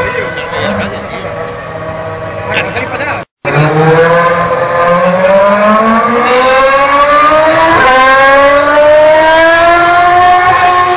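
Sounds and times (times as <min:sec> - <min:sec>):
racing car engine revving: 0:00.6 - 0:10.9.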